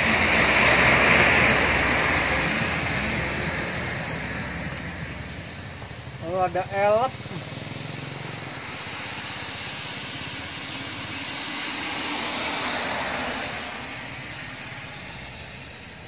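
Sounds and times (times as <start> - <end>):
diesel engine passing by: 0.0 - 16.0
tyres hissing on wet road: 0.0 - 16.0.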